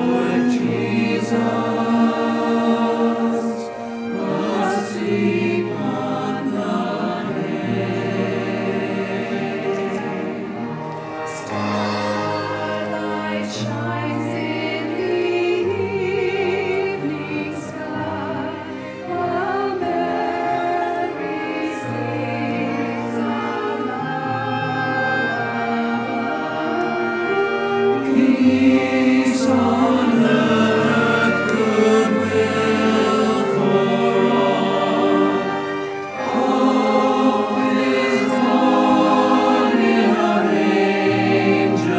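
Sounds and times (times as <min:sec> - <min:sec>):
choir singing: 0:00.0 - 0:41.9
orchestral accompaniment: 0:00.0 - 0:41.9.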